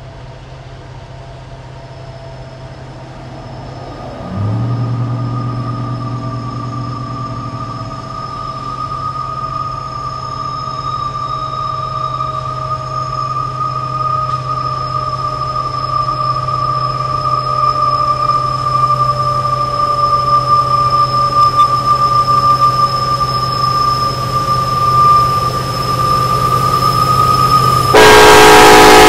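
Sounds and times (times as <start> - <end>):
train rumble: 0.0 - 29.0
high-pitched squeal: 1.2 - 29.0.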